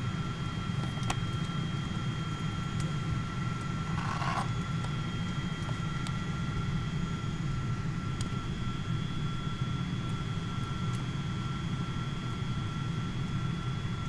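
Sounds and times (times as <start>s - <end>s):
airplane cabin hum: 0.0s - 14.0s
faint whining tones: 0.0s - 14.0s.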